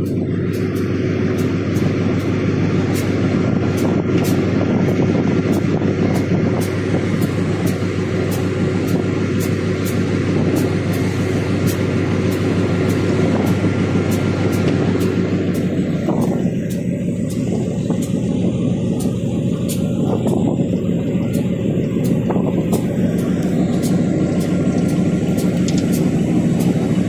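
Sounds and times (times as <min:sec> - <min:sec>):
locomotive engine drone: 0:00.0 - 0:27.0
train running noise: 0:00.0 - 0:27.0.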